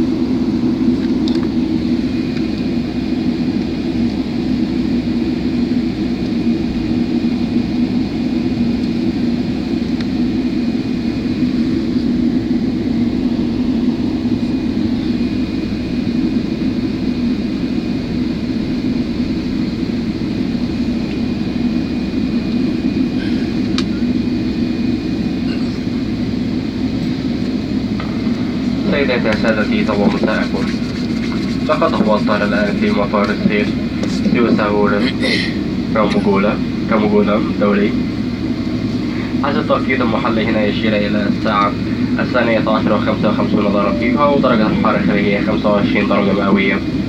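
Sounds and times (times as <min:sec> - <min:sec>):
aircraft cabin engine rumble: 0:00.0 - 0:47.0
thin steady whine: 0:00.0 - 0:47.0.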